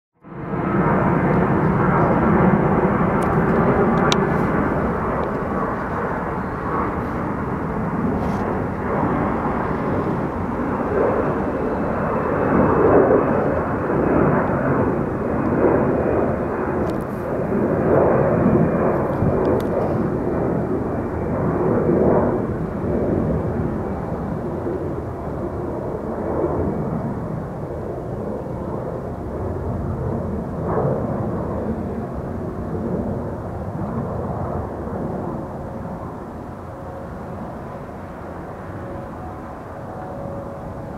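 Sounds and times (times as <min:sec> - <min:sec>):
jet engines rumbling: 0:00.2 - 0:40.9.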